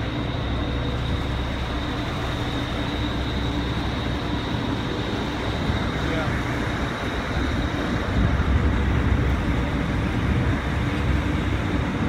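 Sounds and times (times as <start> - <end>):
ferry diesel engines rumbling: 0.0 - 12.0.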